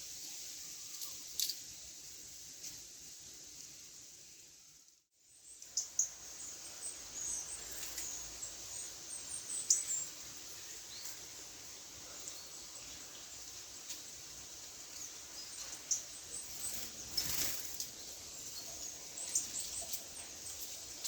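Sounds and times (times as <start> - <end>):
songbirds chirping: 0.0 - 21.0
steady background hiss: 0.0 - 21.0.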